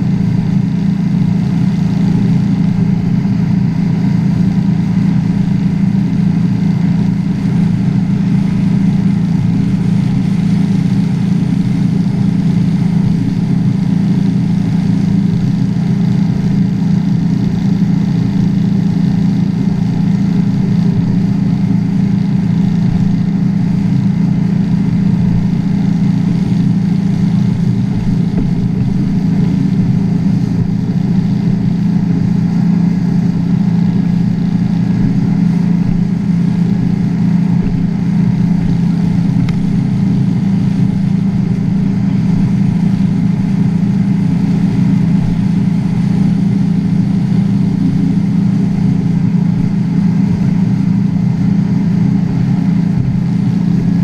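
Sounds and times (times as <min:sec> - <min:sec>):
boat engine running steadily: 0:00.0 - 0:54.0
wind and water rush: 0:00.0 - 0:54.0.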